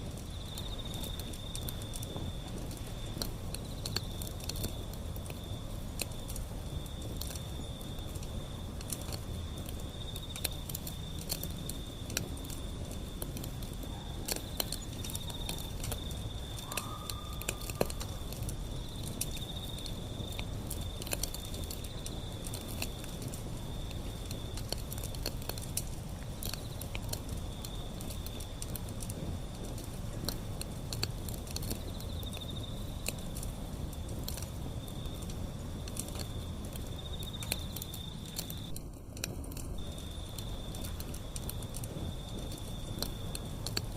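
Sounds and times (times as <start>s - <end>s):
flame rumbling: 0.0s - 43.9s
wood crackling and popping: 0.0s - 43.9s.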